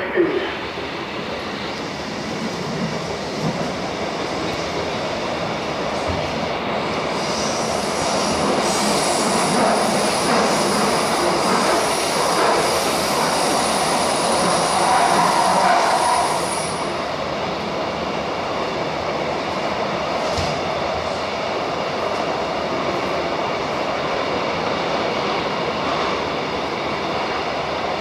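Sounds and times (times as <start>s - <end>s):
train rumbling in motion: 0.0s - 28.0s.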